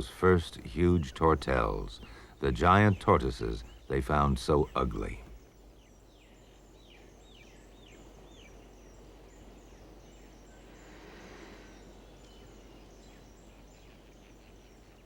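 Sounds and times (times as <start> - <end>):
small birds chirping: 0.0 - 15.0
soft rush of noise: 0.0 - 15.0.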